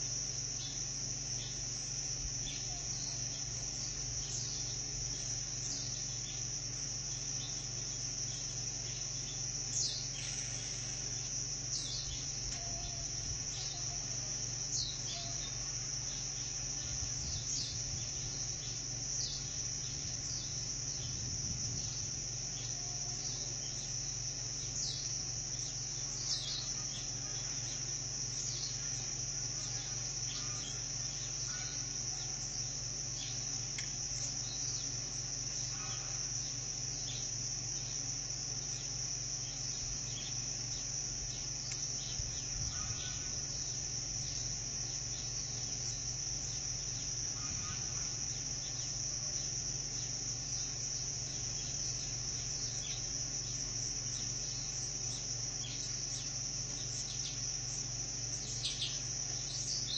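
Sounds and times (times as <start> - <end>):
insects chorus: 0.0 - 59.9
short insect chirps: 0.0 - 59.9.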